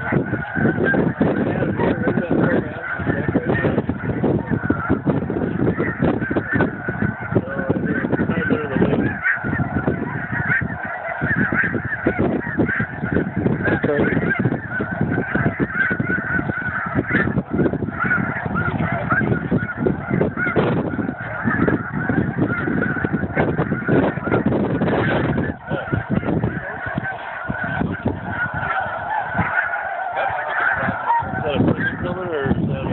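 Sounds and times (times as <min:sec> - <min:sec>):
flock of geese honking: 0:00.0 - 0:32.9.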